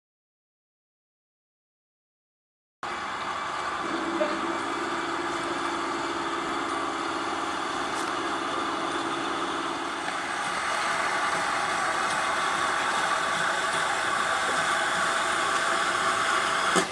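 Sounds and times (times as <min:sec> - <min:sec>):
steam locomotive hissing: 0:02.9 - 0:16.9.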